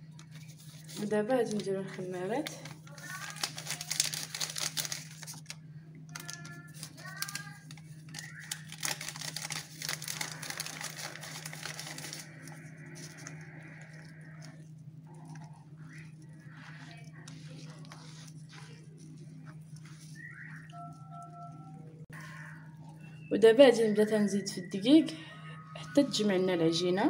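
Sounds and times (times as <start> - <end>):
hands rustling in flour: 0.0 - 5.6, 6.2 - 23.1
paper sachets crinkling: 0.0 - 23.1
steady low hum: 0.0 - 27.0.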